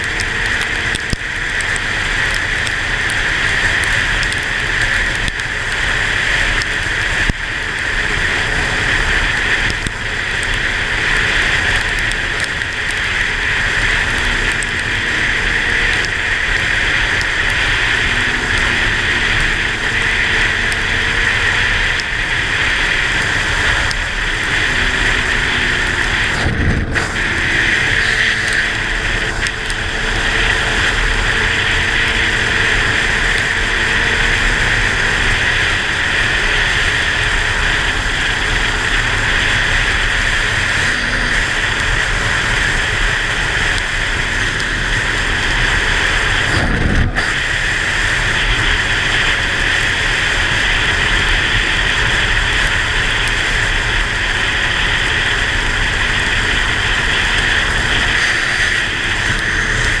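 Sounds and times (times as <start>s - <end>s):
motorcycle engine hum: 0.0s - 60.0s
tyre noise on wet road: 0.0s - 60.0s
wind rushing on microphone: 0.0s - 60.0s.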